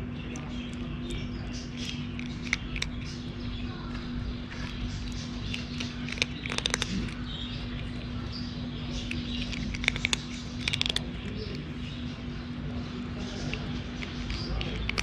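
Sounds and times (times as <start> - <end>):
cat crunching dry food: 0.0 - 15.0.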